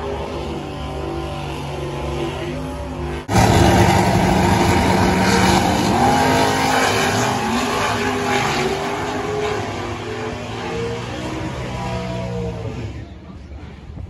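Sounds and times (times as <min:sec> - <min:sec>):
drag cars accelerating: 0:00.0 - 0:14.0.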